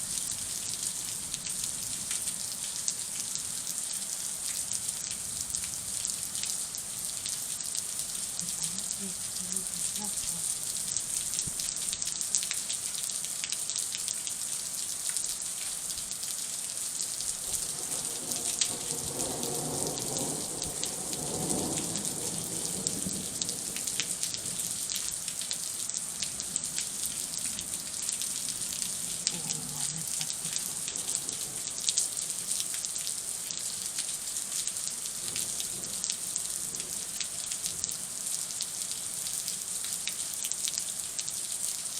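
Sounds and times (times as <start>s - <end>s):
heavy rain falling: 0.0s - 41.9s
raindrops ticking close: 0.6s - 41.9s.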